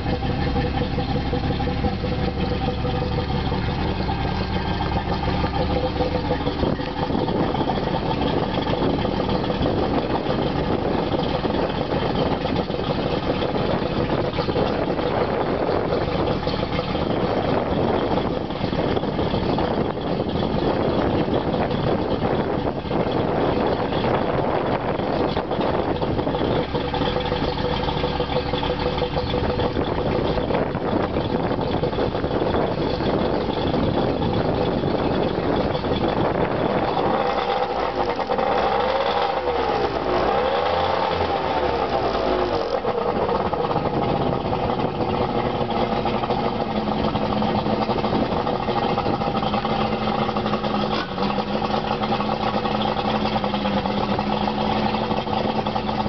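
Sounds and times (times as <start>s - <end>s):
outboard motor idling: 0.0s - 56.0s.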